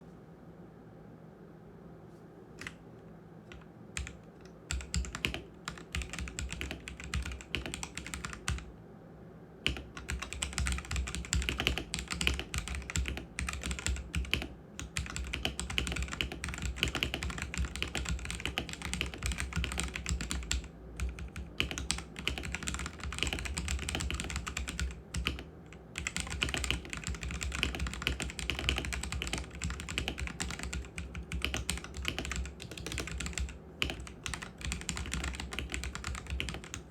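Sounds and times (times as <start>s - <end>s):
mechanical keyboard typing: 3.5s - 8.7s, 9.6s - 36.9s.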